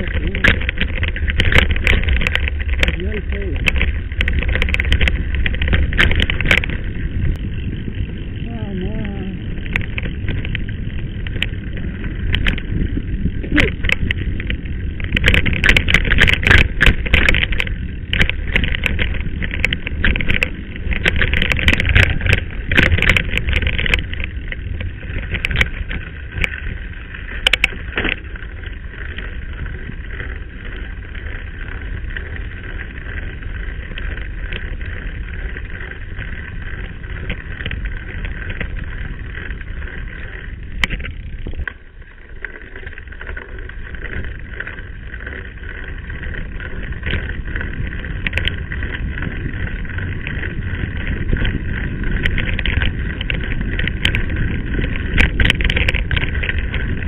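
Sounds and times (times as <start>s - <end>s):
bike rattling over bumps: 0.0s - 57.0s
wind rushing on microphone: 0.0s - 57.0s.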